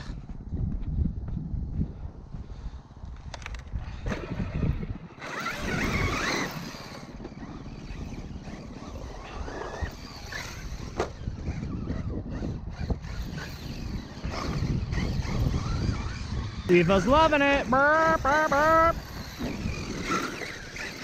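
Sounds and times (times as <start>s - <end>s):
rc truck motor whining: 3.4s - 21.0s.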